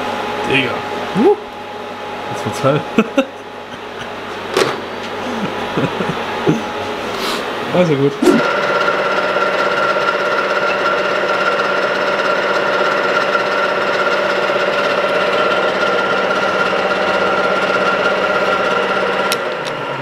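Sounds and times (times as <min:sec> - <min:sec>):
pillar drill humming: 0:02.8 - 0:20.0.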